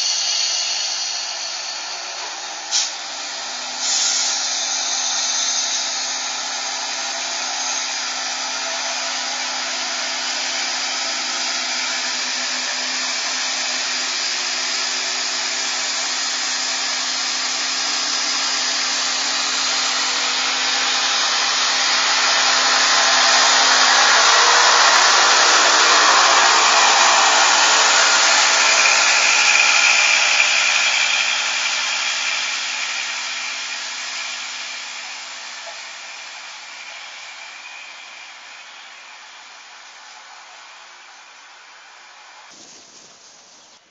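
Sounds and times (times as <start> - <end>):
train wheels rushing past: 0.0 - 43.6.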